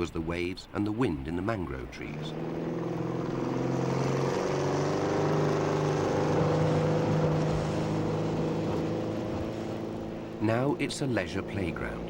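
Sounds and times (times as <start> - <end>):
motor engine droning: 1.6 - 12.0.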